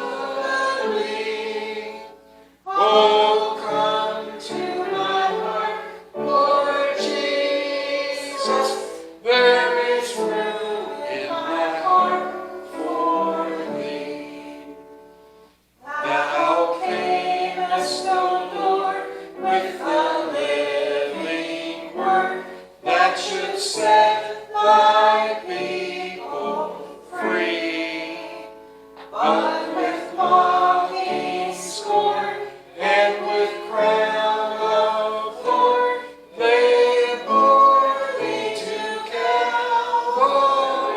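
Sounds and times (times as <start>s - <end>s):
choir singing: 0.0s - 15.0s, 15.8s - 40.9s.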